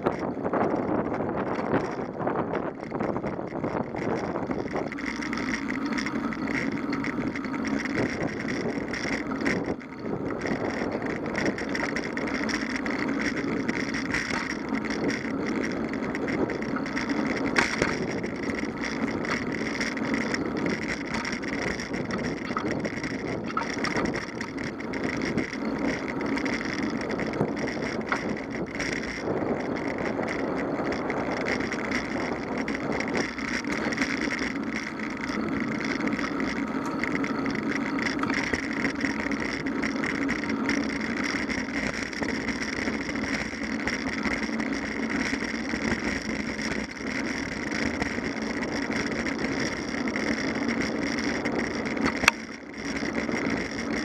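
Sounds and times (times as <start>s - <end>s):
bicycle tyre road noise: 0.0s - 54.0s
wind on microphone: 0.0s - 54.0s.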